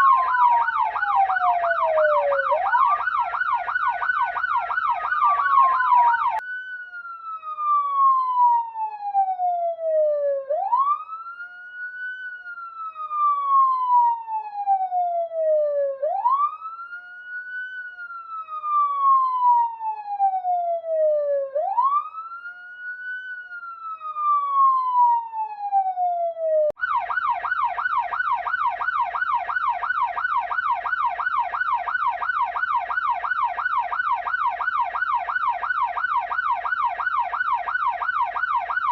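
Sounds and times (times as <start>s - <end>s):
police siren wailing and yelping: 0.0s - 38.9s.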